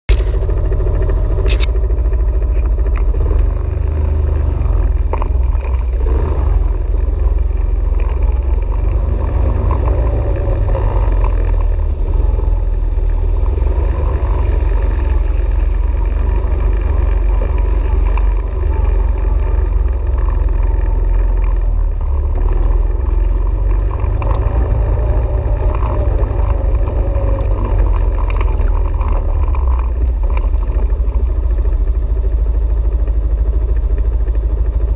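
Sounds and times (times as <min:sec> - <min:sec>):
atv engine running: 0:00.0 - 0:34.9
heavy low rumble: 0:00.0 - 0:34.9.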